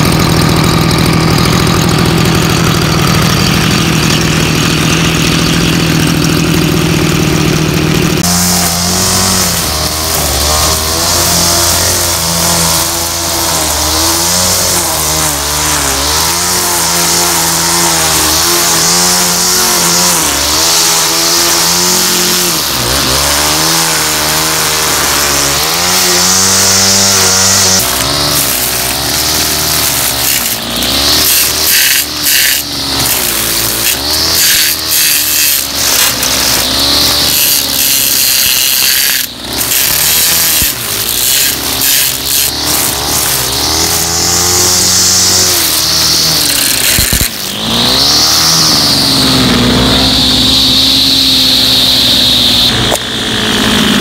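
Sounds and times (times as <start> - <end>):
string trimmer engine revving: 0.0 - 54.0.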